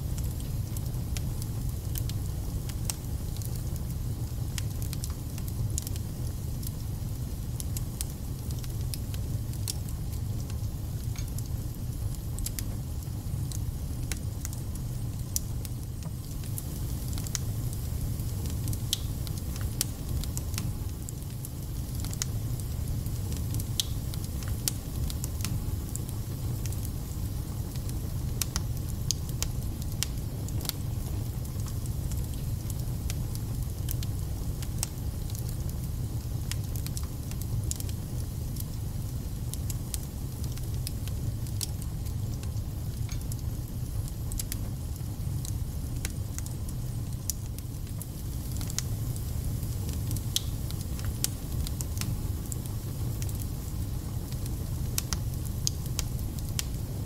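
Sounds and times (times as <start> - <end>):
fire crackling and spitting: 0.0 - 57.0
wood fire rumbling: 0.1 - 57.0.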